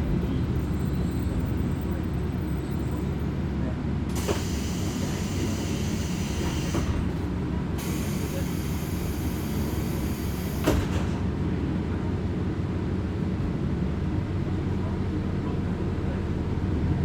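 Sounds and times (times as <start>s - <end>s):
railcar engine and rolling drone: 0.0s - 17.0s.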